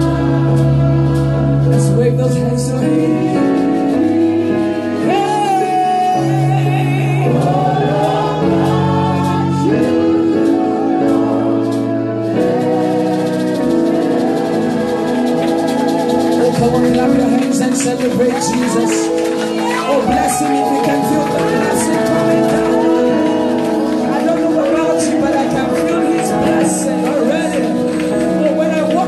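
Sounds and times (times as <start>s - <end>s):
group singing along: 0.0s - 17.3s, 19.2s - 28.4s
held instrumental chords: 0.0s - 29.0s
lead vocalists singing gospel: 0.0s - 29.0s.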